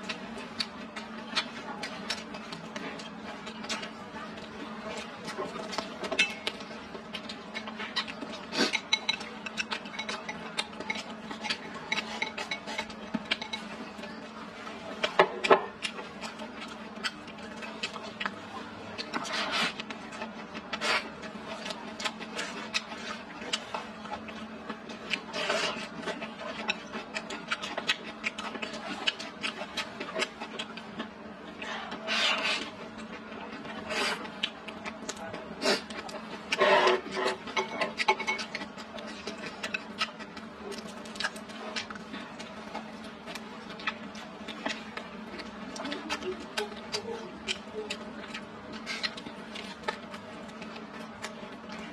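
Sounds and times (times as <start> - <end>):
chewing and mouth noises: 0.0 - 51.9.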